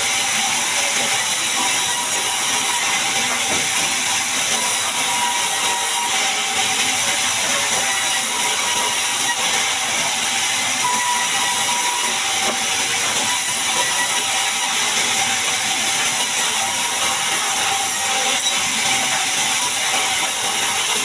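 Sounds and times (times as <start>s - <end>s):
band sawmill cutting log: 0.0s - 21.0s.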